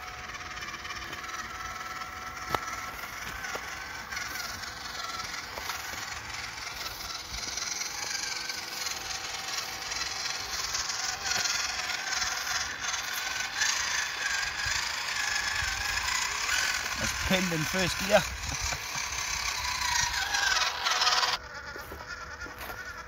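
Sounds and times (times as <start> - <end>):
toy truck electric motor whining: 0.0 - 23.0.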